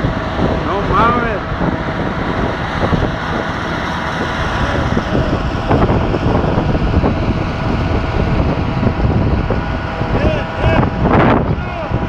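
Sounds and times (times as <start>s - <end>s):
tornado wind buffeting microphone: 0.0s - 12.0s.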